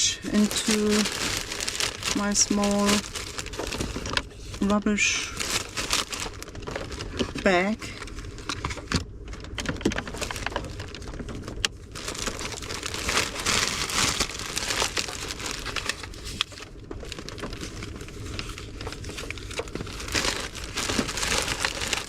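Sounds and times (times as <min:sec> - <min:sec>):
rubbish bag crinkling: 0:00.0 - 0:22.0.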